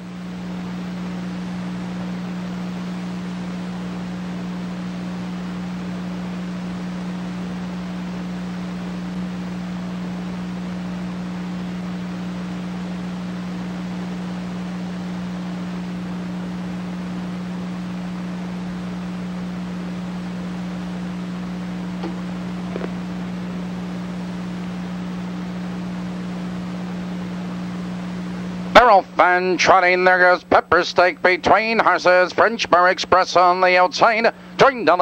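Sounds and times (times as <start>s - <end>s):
constant hiss: 0.0s - 35.0s
low electrical hum: 0.0s - 35.0s.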